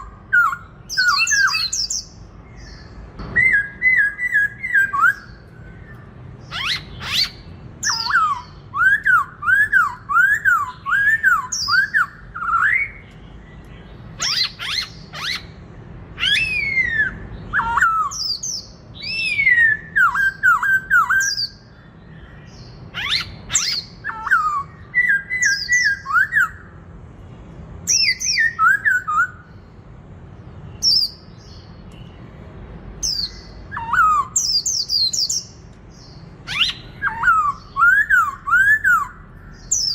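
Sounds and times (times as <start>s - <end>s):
bird singing whistled phrases: 0.0s - 13.2s, 14.2s - 15.5s, 16.2s - 21.7s, 22.9s - 26.8s, 27.9s - 29.5s, 33.0s - 39.9s.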